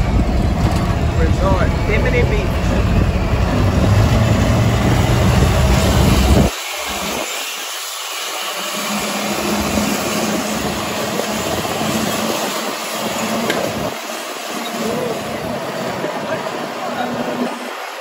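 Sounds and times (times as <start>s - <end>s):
tram running: 0.0s - 18.0s.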